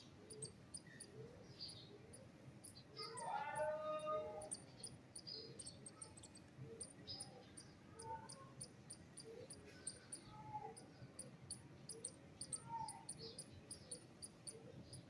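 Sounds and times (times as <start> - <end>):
rapid high-pitched ticking: 0.0 - 1.2, 2.1 - 3.8, 4.4 - 15.0
faint bird calls: 0.0 - 15.0.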